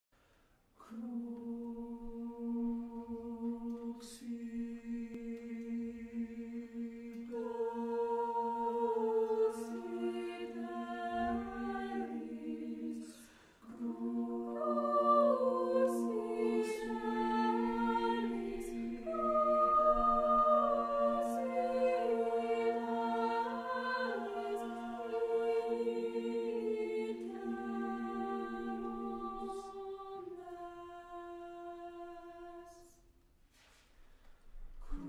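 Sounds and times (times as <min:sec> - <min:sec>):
choir singing unaccompanied: 0:00.8 - 0:33.0.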